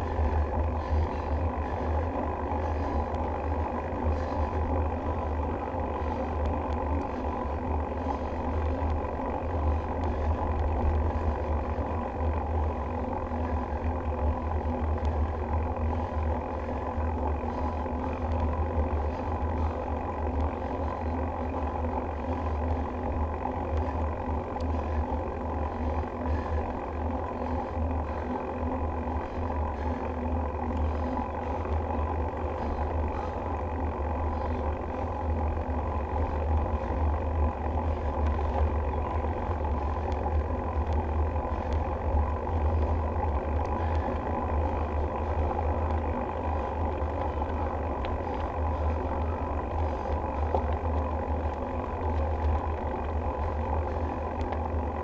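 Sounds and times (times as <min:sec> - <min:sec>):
bicycle tyres rolling on asphalt: 0:00.0 - 0:55.0.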